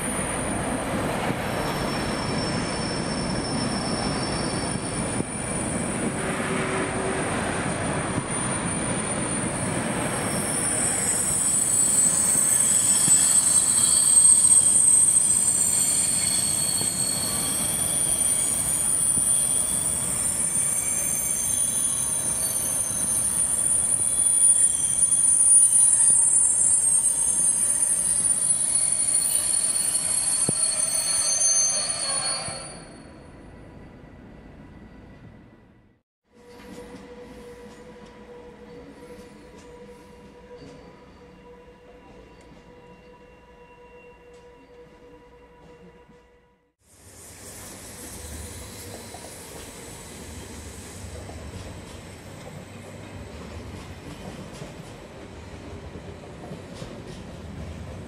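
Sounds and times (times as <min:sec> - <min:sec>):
freight train passing: 0:00.0 - 0:58.0
train wheels squealing: 0:01.2 - 0:06.9, 0:07.8 - 0:35.4, 0:36.4 - 0:57.3.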